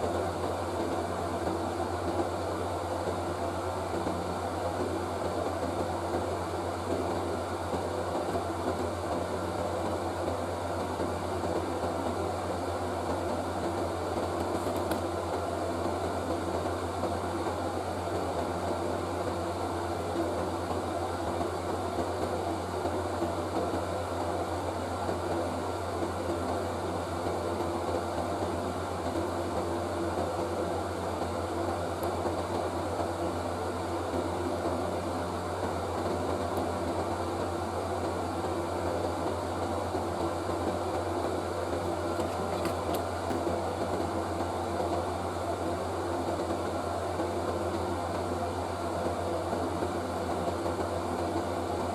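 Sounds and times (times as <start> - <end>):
electric fan whirring: 0.0 - 51.9.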